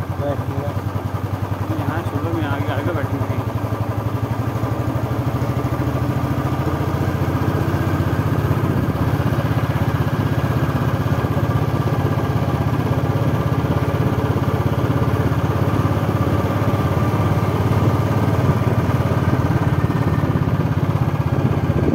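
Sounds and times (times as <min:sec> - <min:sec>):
road noise: 0:00.0 - 0:21.9
vehicle engine droning: 0:00.0 - 0:21.9.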